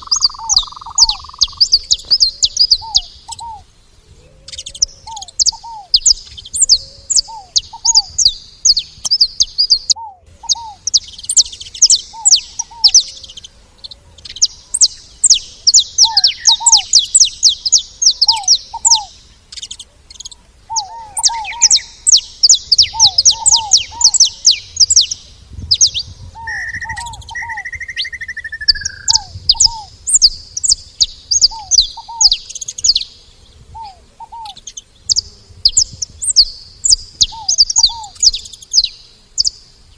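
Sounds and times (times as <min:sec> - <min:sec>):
finches chattering and singing: 0:00.0 - 0:39.9.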